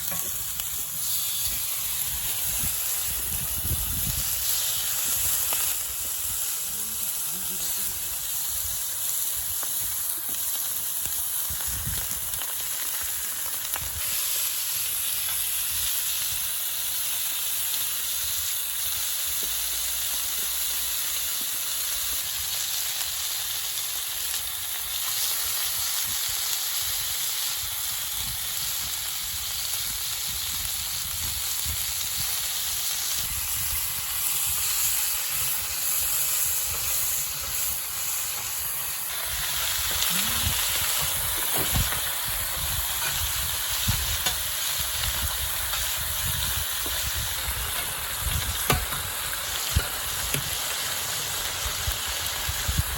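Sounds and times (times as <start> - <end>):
pork sizzling on griddle: 0.0 - 52.9.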